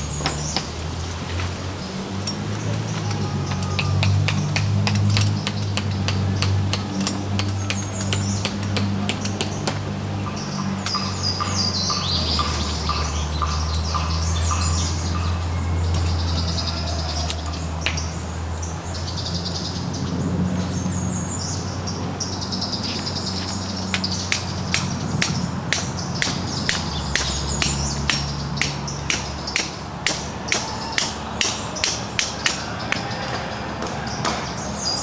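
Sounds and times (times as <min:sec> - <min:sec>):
birds chirping and singing: 0:00.0 - 0:35.0.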